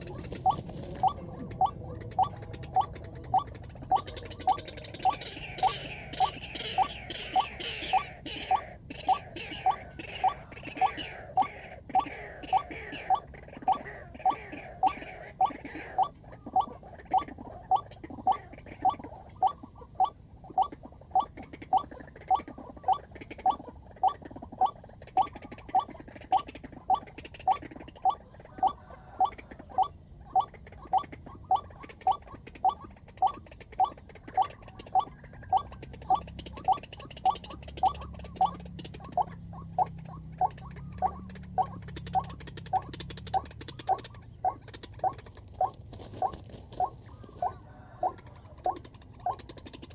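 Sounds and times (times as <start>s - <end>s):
waterhen repeated call: 0.0s - 49.9s.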